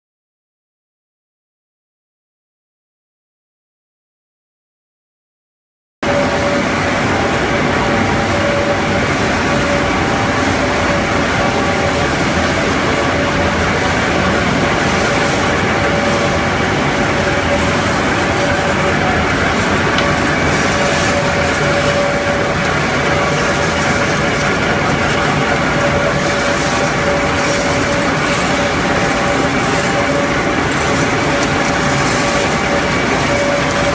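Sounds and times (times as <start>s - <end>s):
mid-pitched machine hum: 6.0s - 33.9s
pellet mill machine noise: 6.0s - 33.9s.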